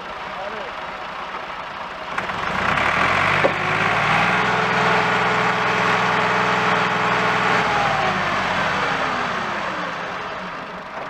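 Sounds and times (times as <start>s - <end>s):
tractor diesel engine revving: 0.0s - 11.0s.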